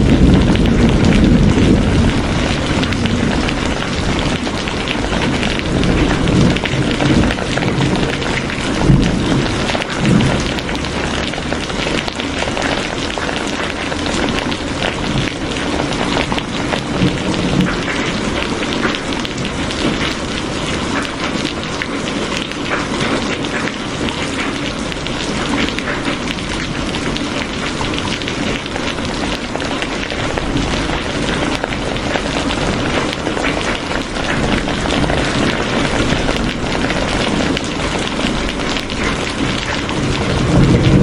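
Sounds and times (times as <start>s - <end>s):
heavy rain falling: 0.0s - 41.0s
raindrops hitting a surface: 0.0s - 41.0s.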